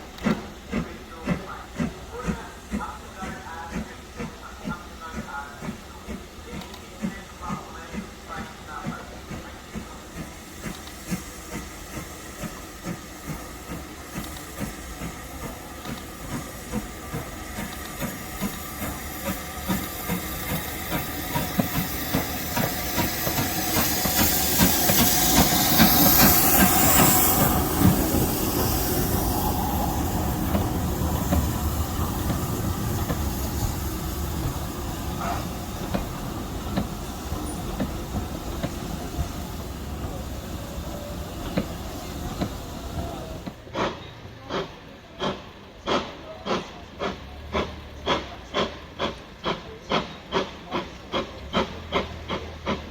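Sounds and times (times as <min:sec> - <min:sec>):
loud hiss of steam: 0:00.0 - 0:52.9
steam locomotive chuffing: 0:00.0 - 0:52.9.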